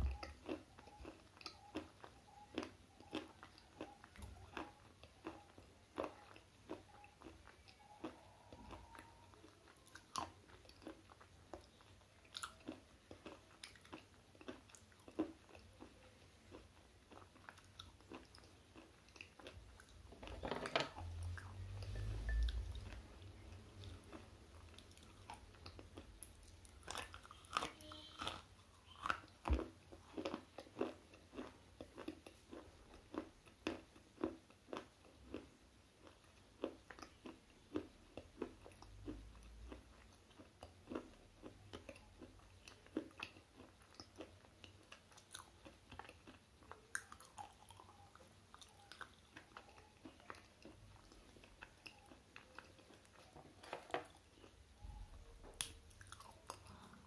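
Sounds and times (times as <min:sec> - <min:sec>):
chewing crunches and clicks: 0:00.0 - 0:57.0.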